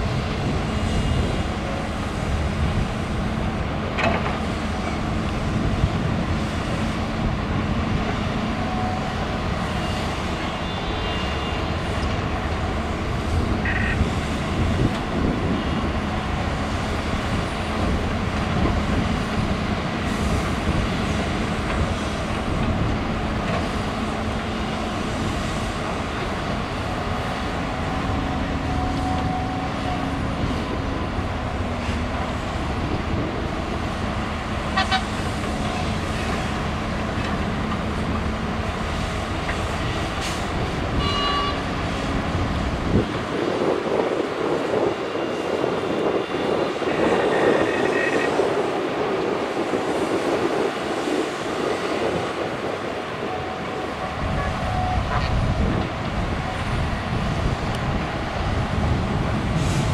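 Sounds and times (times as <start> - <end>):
diesel engines running: 0.0 - 59.9
heavy machinery rumble: 0.0 - 59.9.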